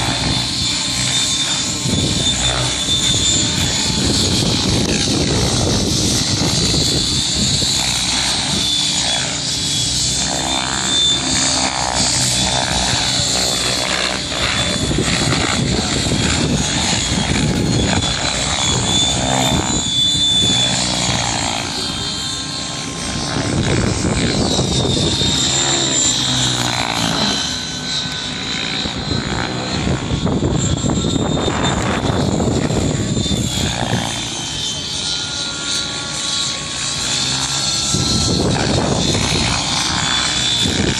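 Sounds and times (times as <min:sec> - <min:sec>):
model helicopter rotor whine: 0:00.0 - 0:40.9.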